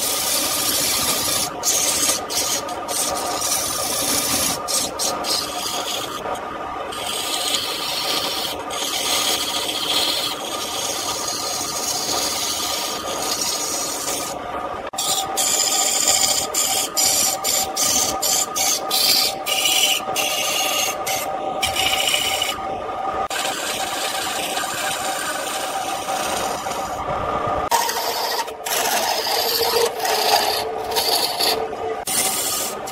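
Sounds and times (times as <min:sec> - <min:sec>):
turning tool scraping wood: 0:00.0 - 0:22.6, 0:23.2 - 0:32.9
lathe motor humming: 0:00.0 - 0:32.9.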